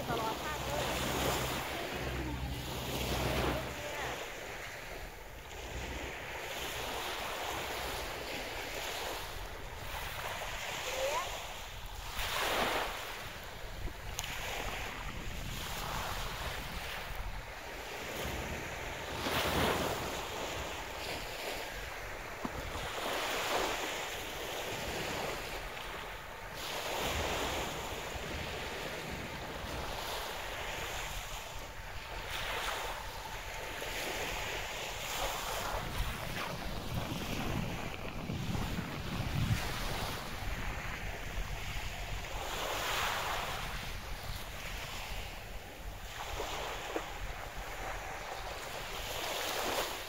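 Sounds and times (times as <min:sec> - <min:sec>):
sea waves breaking: 0:00.0 - 0:50.0
wind on microphone: 0:00.0 - 0:50.0.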